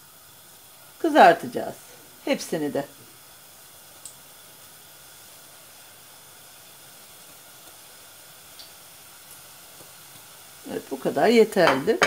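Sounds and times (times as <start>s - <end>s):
pastries sizzling in hot oil: 0.0s - 12.0s.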